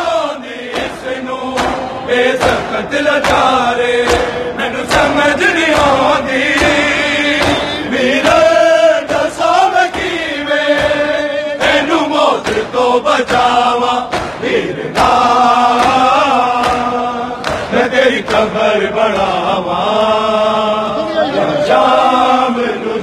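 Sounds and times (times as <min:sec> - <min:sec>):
crowd of men chanting: 0:00.0 - 0:23.0
hands slapping chests: 0:00.7 - 0:19.5.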